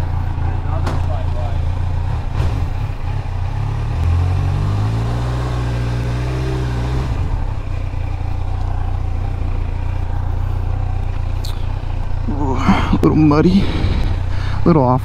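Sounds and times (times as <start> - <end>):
motorcycle engine idling: 0.0 - 4.5, 6.0 - 15.0.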